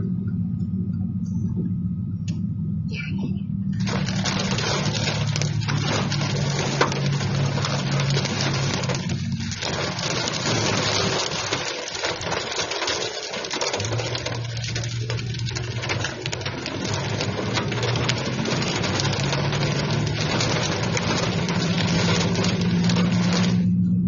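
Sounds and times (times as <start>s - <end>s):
car engine humming: 0.0s - 24.0s
rain and hail pelting car roof: 3.7s - 23.8s.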